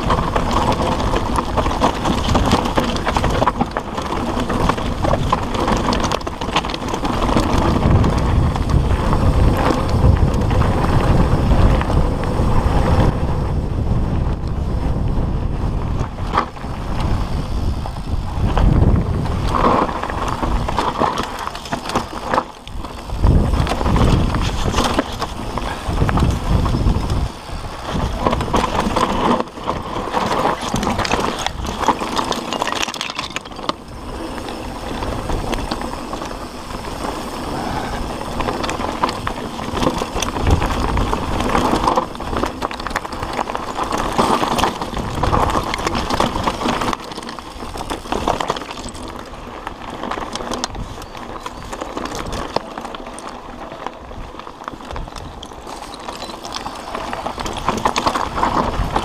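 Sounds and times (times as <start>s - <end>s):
tyres crunching over dirt and stones: 0.0s - 13.0s, 15.7s - 59.0s
bike rattling over bumps: 0.0s - 59.0s
wind buffeting microphone: 0.0s - 59.0s.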